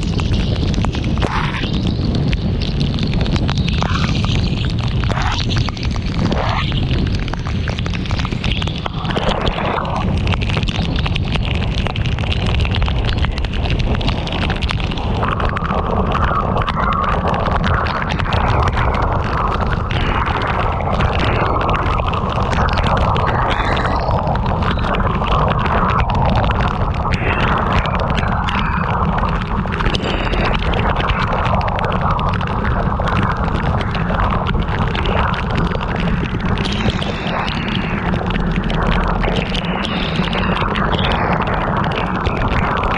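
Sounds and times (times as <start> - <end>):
heavy rain on a car: 0.0 - 42.9
wind and road noise rumble: 0.0 - 42.9.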